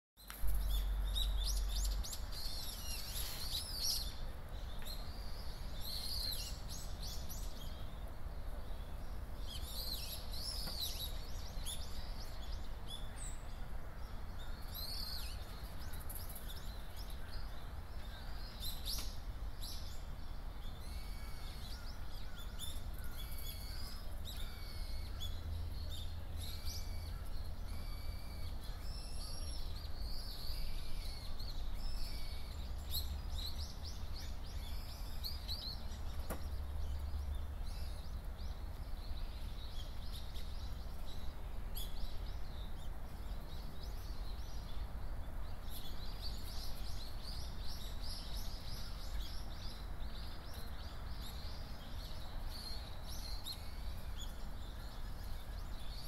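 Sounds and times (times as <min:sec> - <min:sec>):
birds chirping and singing: 0:00.2 - 0:56.0.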